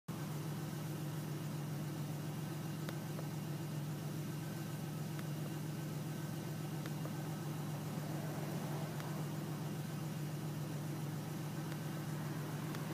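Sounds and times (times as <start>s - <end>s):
car engine idling: 0.1s - 12.9s.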